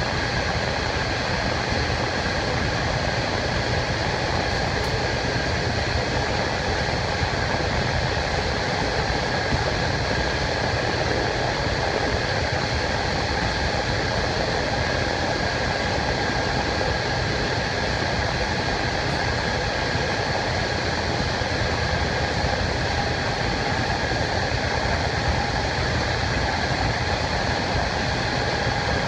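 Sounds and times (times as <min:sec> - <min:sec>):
faint steady hum: 0:00.0 - 0:29.0
railcar running roar: 0:00.0 - 0:29.0.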